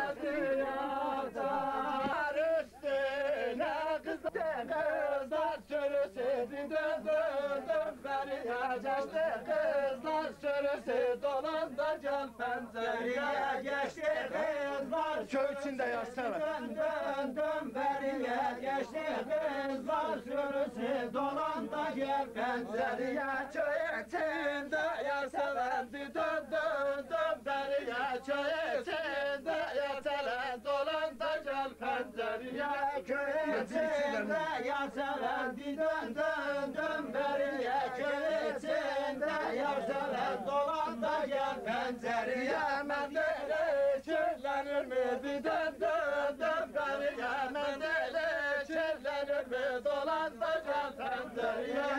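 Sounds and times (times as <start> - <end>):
men singing folk song in chorus: 0.0 - 51.9.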